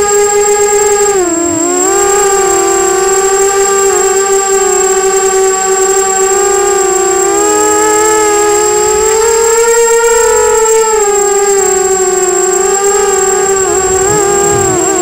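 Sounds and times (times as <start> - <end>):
quadcopter motors whining: 0.0 - 15.0
thin high whine: 0.0 - 15.0.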